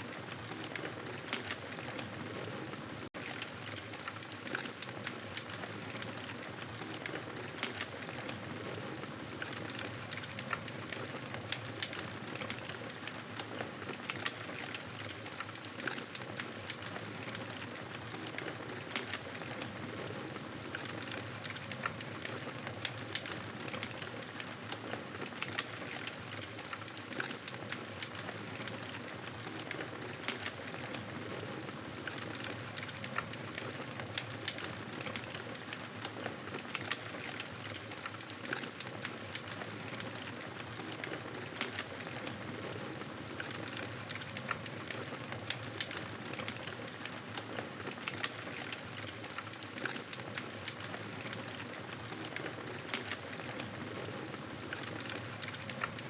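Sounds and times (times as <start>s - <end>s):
campfire crackling: 9.4s - 56.0s.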